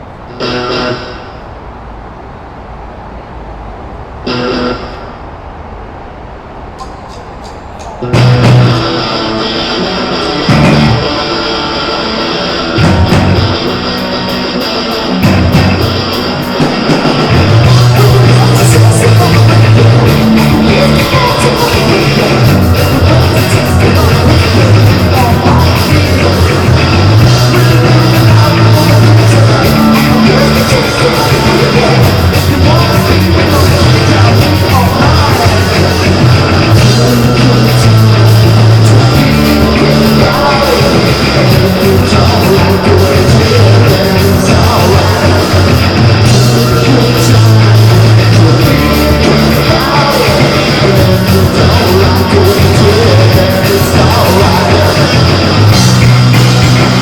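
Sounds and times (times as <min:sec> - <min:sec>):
electric guitar: 0:00.0 - 0:01.8, 0:04.0 - 0:05.3, 0:06.7 - 0:57.0
repeating bass line: 0:06.8 - 0:57.0.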